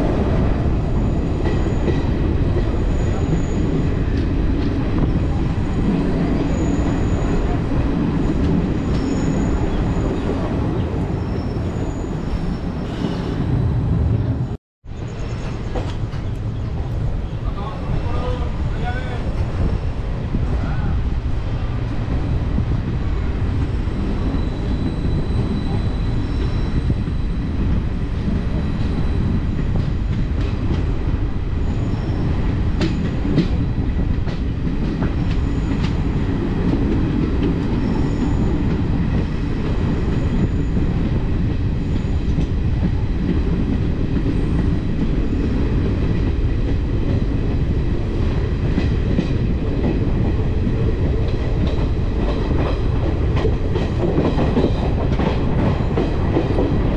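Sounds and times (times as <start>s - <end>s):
rumble of train wheels on rails: 0.0s - 56.9s.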